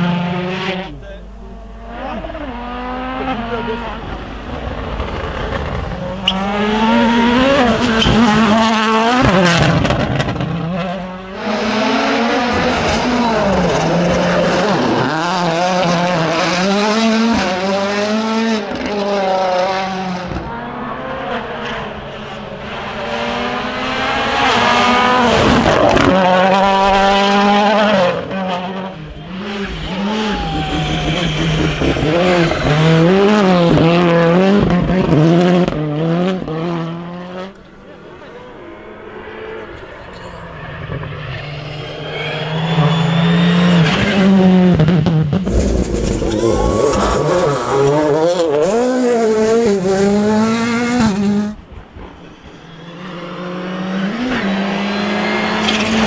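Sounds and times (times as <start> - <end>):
rally cars revving past: 0.0 - 56.0.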